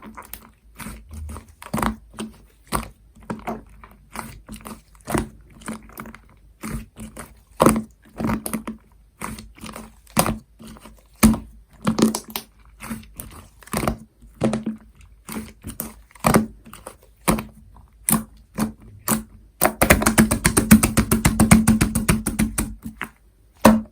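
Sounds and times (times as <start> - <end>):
slime squished by hand: 0.0 - 23.9.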